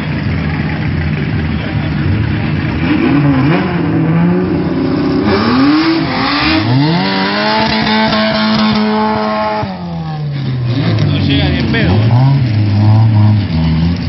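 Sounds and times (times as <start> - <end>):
drag race car engines revving: 0.0 - 14.0.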